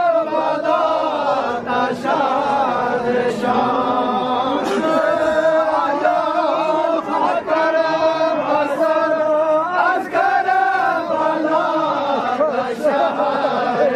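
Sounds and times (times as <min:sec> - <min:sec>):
crowd of men chanting: 0:00.0 - 0:13.9.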